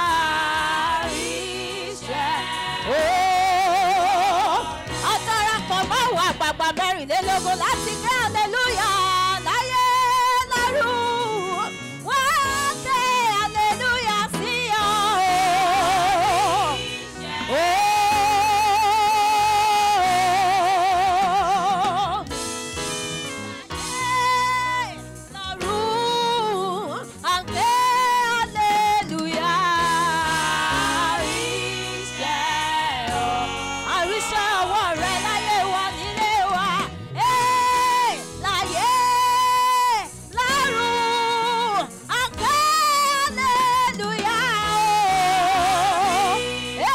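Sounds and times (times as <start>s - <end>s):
woman singing with vibrato: 0.0s - 22.2s, 23.8s - 46.9s
musical accompaniment: 0.0s - 46.9s.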